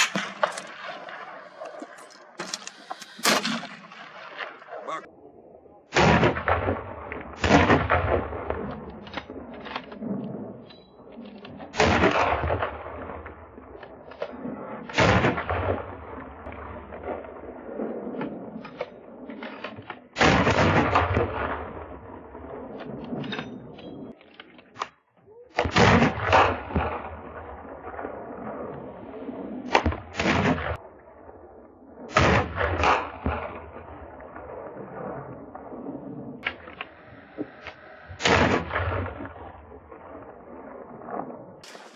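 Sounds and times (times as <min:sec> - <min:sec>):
gunshots with echo: 0:00.0 - 0:05.1, 0:05.9 - 0:10.2, 0:11.6 - 0:18.5, 0:19.4 - 0:23.3, 0:25.5 - 0:30.8, 0:32.1 - 0:41.9.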